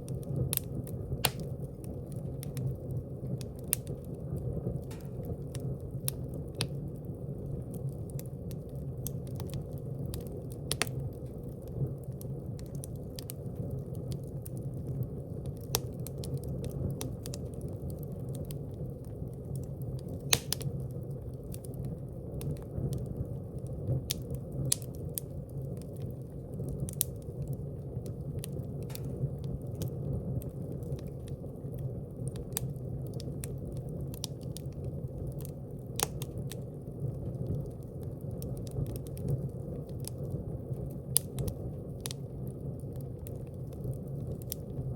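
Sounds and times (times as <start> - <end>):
fire crackling and popping: 0.0 - 44.9.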